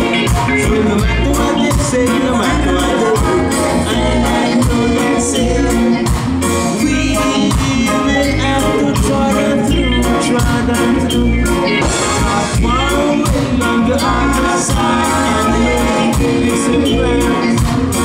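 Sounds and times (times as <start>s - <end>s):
man singing: 0.0s - 18.0s
reggae band playing: 0.0s - 18.0s.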